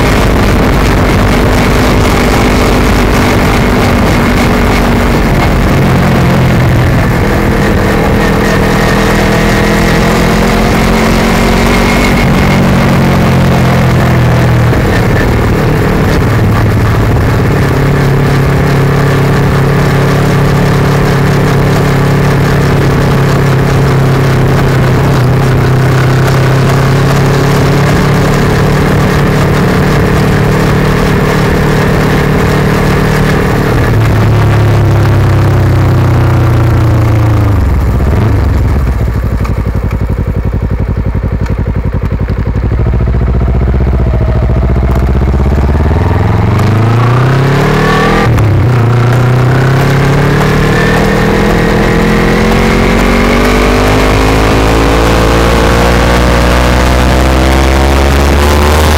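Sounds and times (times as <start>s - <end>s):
gear change: 0.0s - 58.9s
motorcycle engine: 0.0s - 58.9s.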